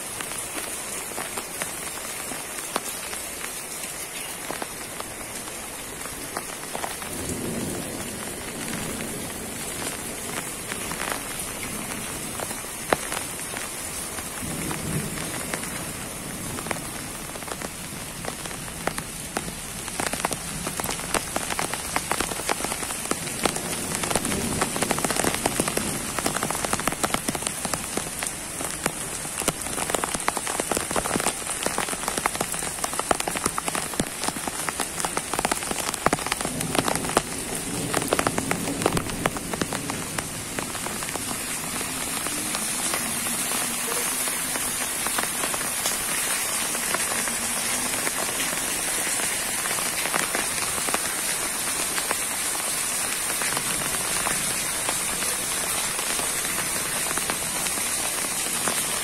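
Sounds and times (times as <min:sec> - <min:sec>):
rain on trees and leaves: 0:00.0 - 0:59.0.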